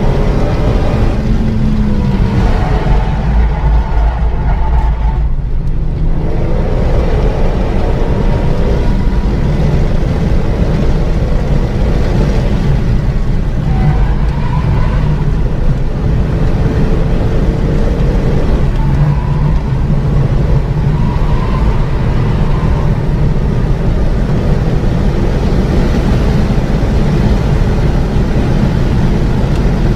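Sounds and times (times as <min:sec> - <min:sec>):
car engine running at speed: 0:00.0 - 0:29.9
road and wind noise: 0:00.0 - 0:29.9.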